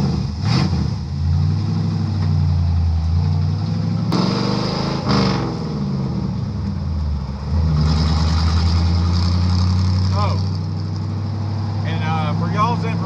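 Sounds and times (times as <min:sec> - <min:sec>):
car engine pulling away: 0:00.0 - 0:13.0.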